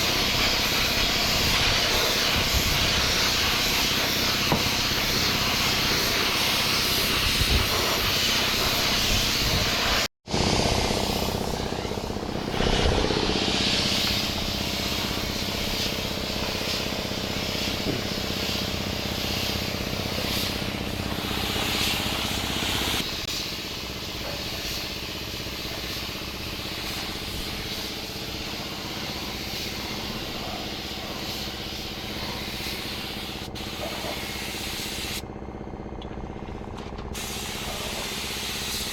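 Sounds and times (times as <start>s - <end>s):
compressed air hissing: 0.0s - 35.2s, 37.2s - 38.9s.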